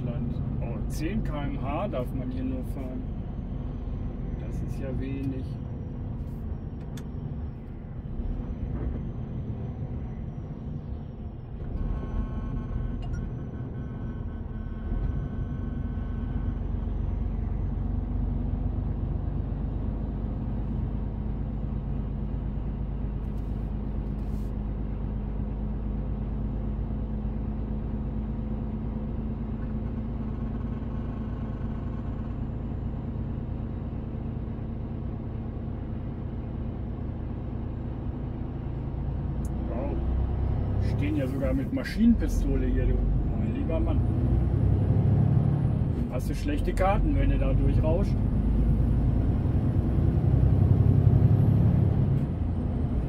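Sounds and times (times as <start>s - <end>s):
diesel engine hum from cab: 0.0s - 53.0s.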